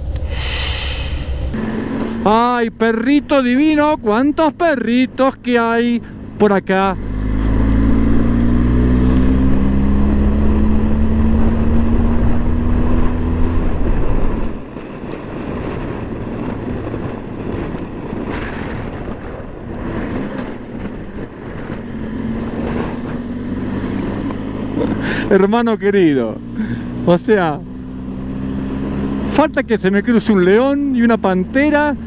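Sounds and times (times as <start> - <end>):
road and wind noise: 0.0 - 32.0
motorcycle engine running: 1.5 - 32.0.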